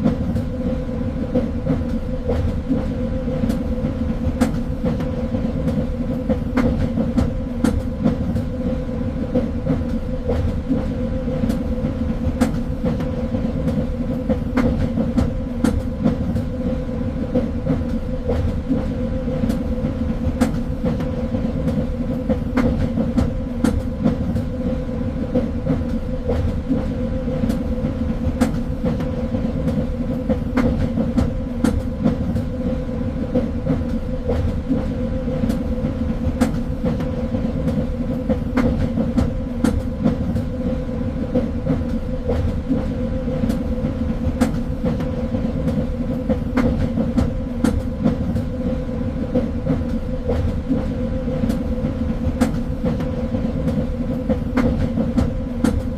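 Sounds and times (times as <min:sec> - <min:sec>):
train rumbling along track: 0:00.0 - 0:55.9.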